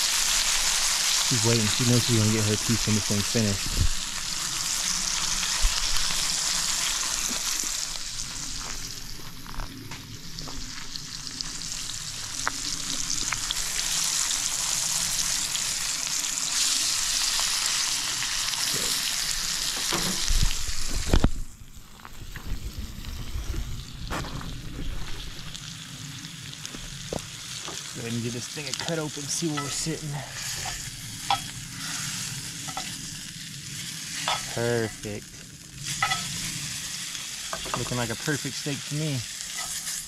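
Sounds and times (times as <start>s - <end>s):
steak sizzling in skillet: 0.0s - 40.0s.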